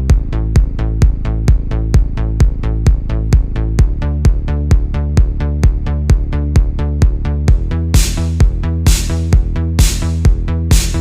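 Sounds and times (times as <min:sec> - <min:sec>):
bass line: 0:00.0 - 0:11.0
electronic dance music: 0:00.0 - 0:11.0
kick-drum beat: 0:00.0 - 0:11.0.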